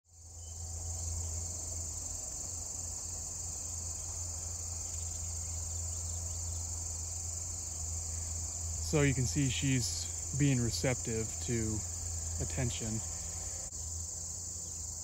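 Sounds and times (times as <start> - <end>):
insects trilling: 0.1 - 15.0.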